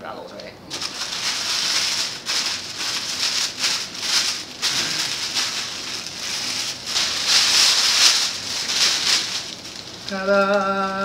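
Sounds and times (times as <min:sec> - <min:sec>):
tissue paper crinkling: 0:00.7 - 0:11.0.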